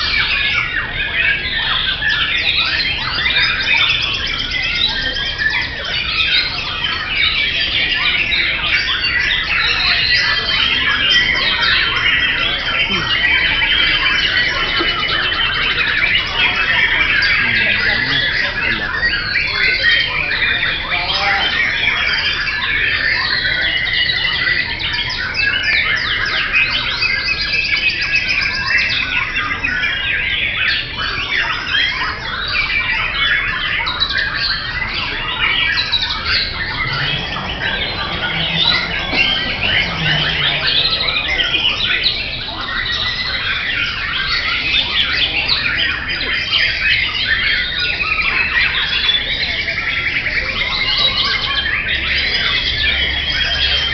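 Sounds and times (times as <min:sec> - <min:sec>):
birds singing chorus: 0:00.0 - 0:53.9.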